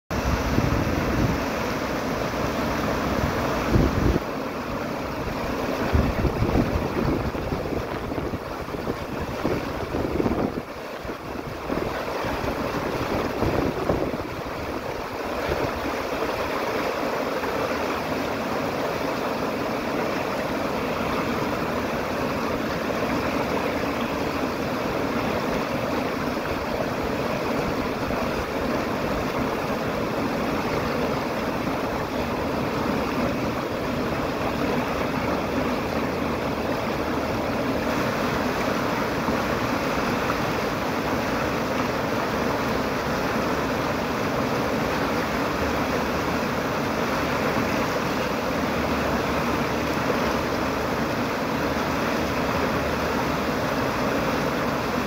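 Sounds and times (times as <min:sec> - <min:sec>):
creek rushing over rocks: 0:00.1 - 0:55.0.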